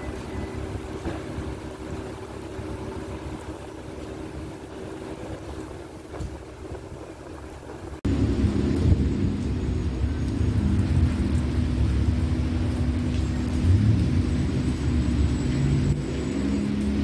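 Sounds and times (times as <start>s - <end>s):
heavy rain falling: 0.0s - 17.0s
low rumble: 0.0s - 17.0s.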